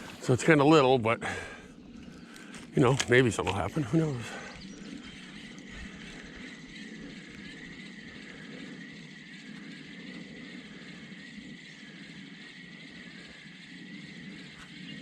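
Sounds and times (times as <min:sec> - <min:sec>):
high whir: 0:00.0 - 0:15.0.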